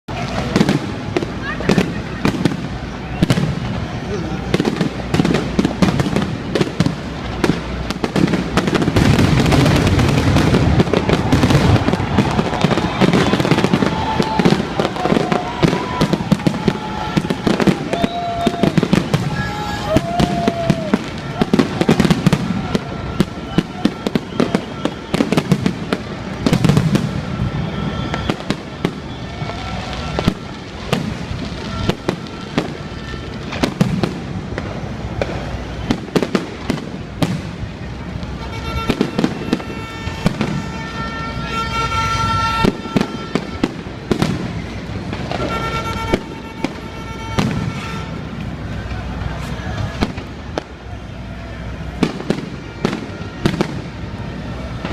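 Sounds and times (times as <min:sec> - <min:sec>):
firecrackers banging and crackling: 0:00.1 - 0:54.9.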